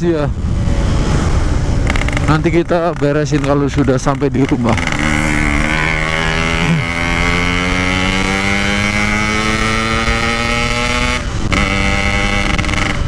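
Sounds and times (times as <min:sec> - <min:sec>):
two-stroke motorcycle accelerating: 0:00.4 - 0:13.0.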